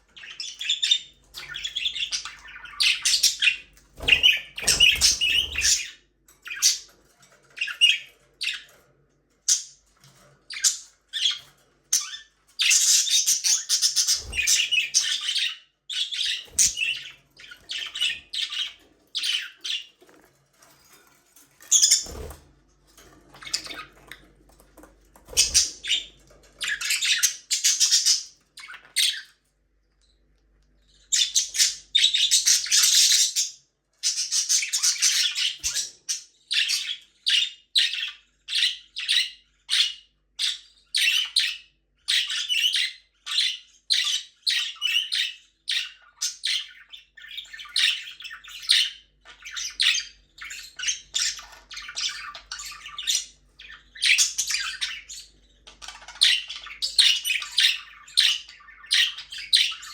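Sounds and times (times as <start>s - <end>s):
budgerigars chirping and squawking: 0.0s - 59.9s.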